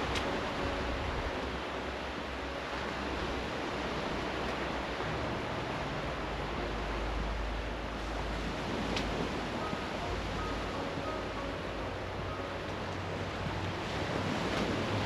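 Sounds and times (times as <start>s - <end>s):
sea surf washing: 0.0s - 15.0s
wind rumbling on microphone: 0.0s - 15.0s.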